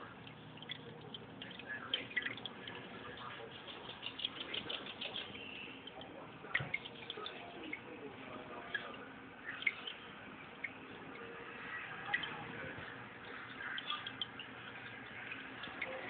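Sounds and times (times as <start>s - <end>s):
aquarium water trickling: 0.0s - 16.0s.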